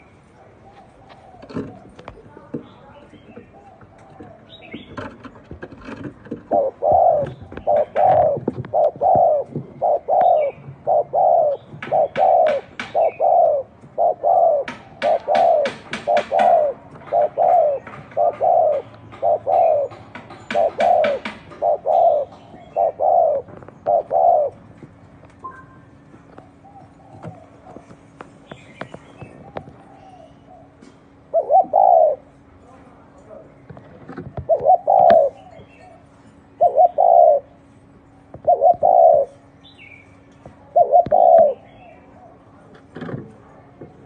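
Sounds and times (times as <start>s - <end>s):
dove cooing: 0.0s - 2.4s, 3.0s - 32.5s, 33.7s - 37.6s, 38.2s - 39.6s, 40.6s - 42.8s.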